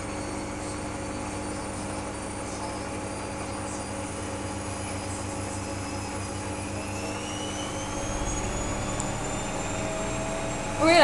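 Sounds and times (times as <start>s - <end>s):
washing machine drum whine: 0.0s - 11.0s
washing machine motor hum: 0.0s - 11.0s.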